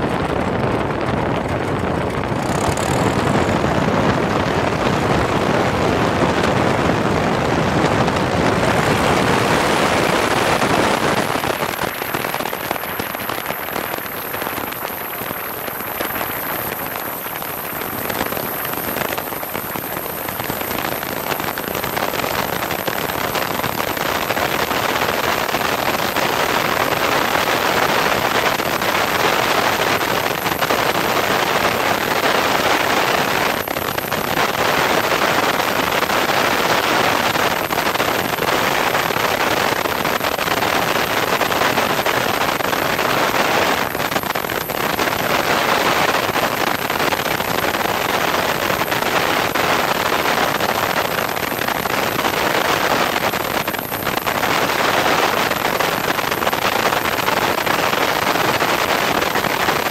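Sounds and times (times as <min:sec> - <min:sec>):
aircraft engine at full power: 0:00.0 - 0:59.9
wind rush: 0:00.0 - 0:59.9.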